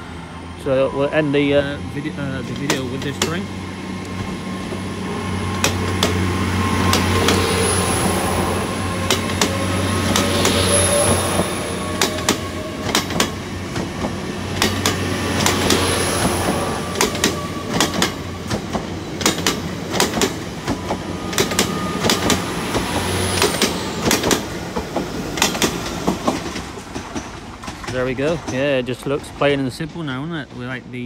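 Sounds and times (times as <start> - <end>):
train engine low hum: 0.0 - 31.0
wheels clicking over rail joints: 2.4 - 4.8, 5.5 - 6.2, 8.7 - 31.0.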